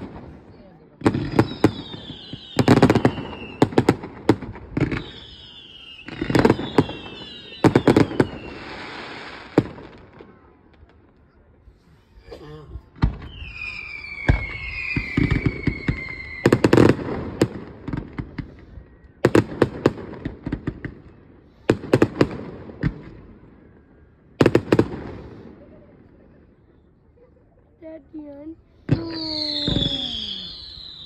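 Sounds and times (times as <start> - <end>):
whistling firework: 0.0 - 10.9, 13.0 - 27.0, 28.8 - 31.0
firework bangs and crackles: 0.0 - 11.3, 12.9 - 26.4, 28.8 - 31.0.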